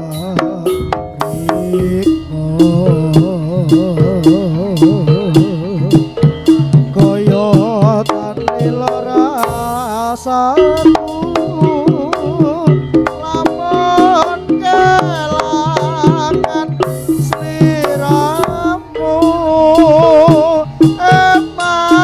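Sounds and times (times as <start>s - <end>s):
drums and gongs rhythm: 0.0s - 22.0s
sliding high melody: 0.0s - 22.0s.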